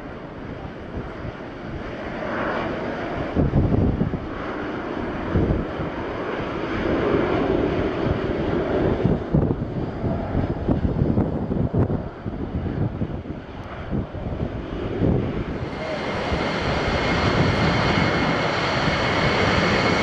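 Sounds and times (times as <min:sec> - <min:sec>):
jet engine roar: 0:00.0 - 0:20.0
wind buffeting microphone: 0:00.0 - 0:20.0.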